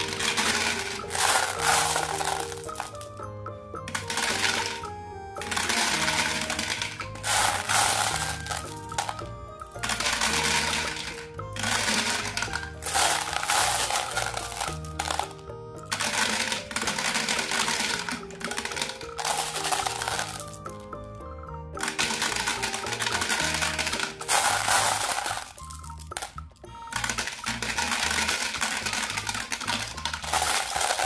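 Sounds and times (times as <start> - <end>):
glass marbles clinking into plastic drum: 0.0 - 21.0, 21.8 - 31.0
background music: 0.0 - 31.0.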